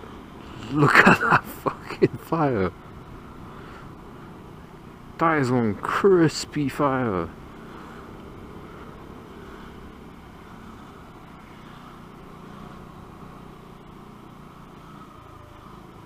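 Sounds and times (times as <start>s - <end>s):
motorcycle engine running: 0.0s - 16.0s
road noise: 0.0s - 16.0s
wind: 0.0s - 16.0s.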